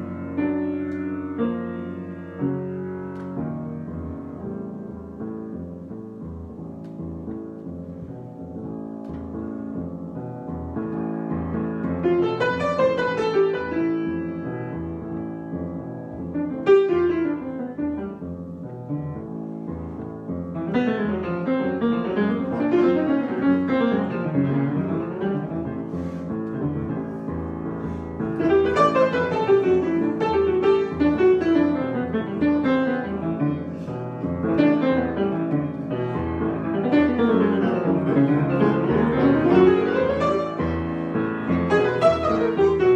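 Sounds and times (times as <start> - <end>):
solo piano improvisation: 0.0 - 42.9.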